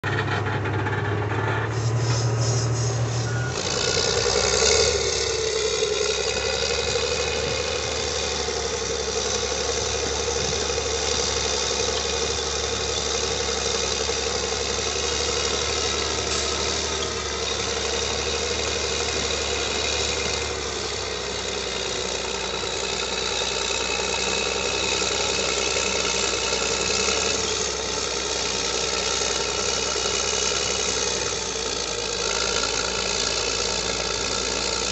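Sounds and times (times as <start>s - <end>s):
diesel engine working under load: 0.0s - 34.9s.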